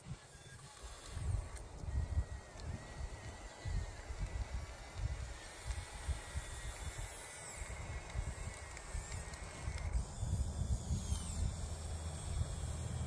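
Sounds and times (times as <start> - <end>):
small electric motors and gears: 0.0 - 13.0.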